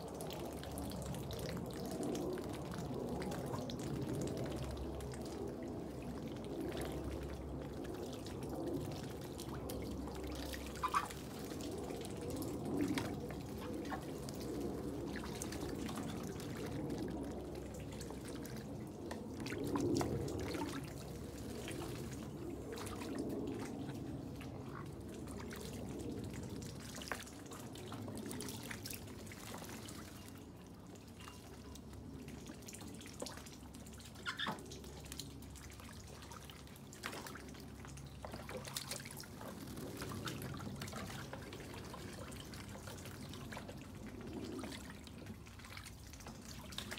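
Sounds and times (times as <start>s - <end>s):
rainwater dripping and trickling: 0.0s - 46.9s
water splashes: 0.0s - 46.9s.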